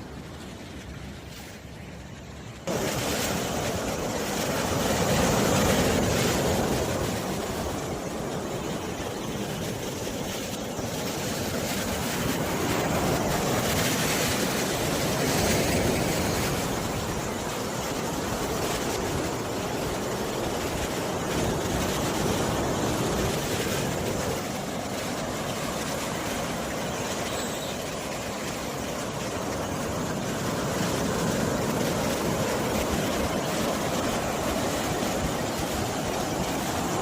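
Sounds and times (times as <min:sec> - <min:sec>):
sea surf rushing: 0:00.0 - 0:37.0
wind: 0:00.0 - 0:37.0.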